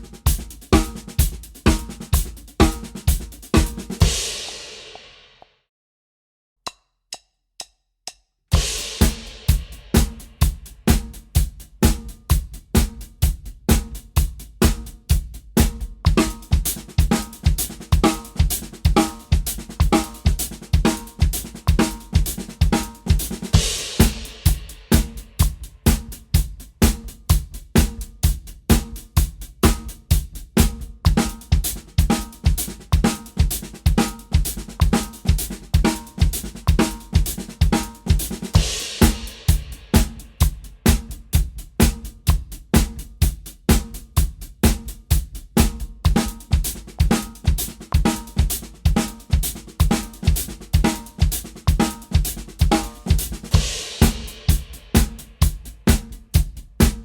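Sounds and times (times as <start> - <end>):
drum kit playing paradiddles: 0.0 - 5.2, 8.5 - 57.0.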